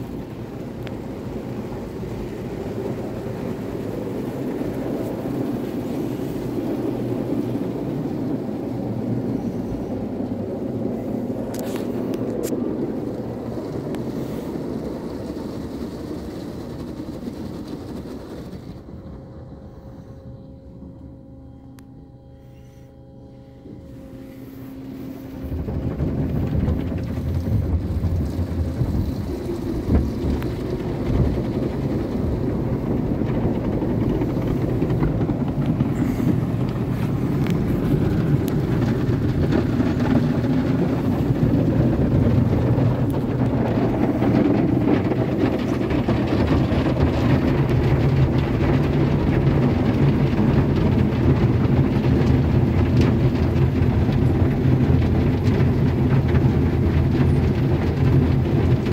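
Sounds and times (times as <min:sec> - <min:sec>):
car wash machine rumbling: 0:00.0 - 0:58.9.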